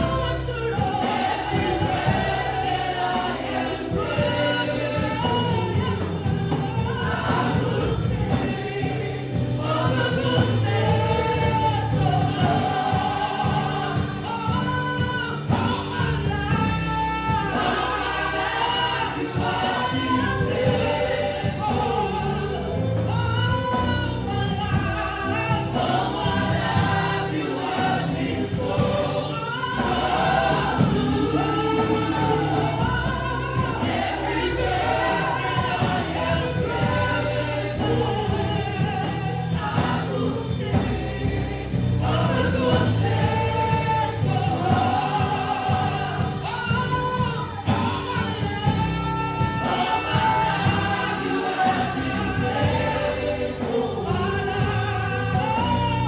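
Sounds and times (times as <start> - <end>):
group singing gospel song: 0.0 - 56.0
instrumental accompaniment with bass: 0.0 - 56.0.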